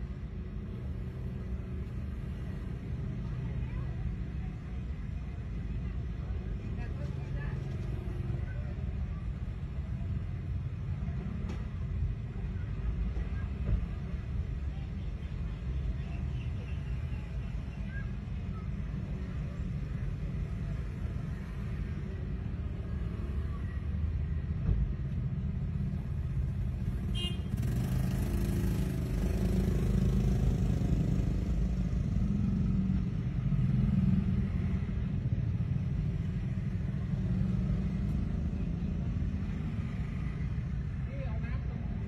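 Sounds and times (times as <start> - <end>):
street traffic rumble: 0.0 - 42.0.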